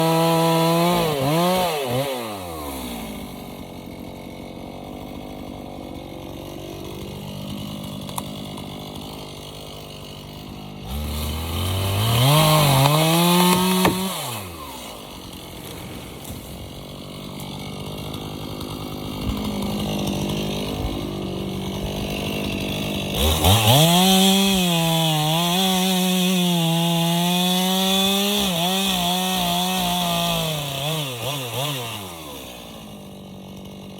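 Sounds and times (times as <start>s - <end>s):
chainsaw revving and idling: 0.0s - 33.9s.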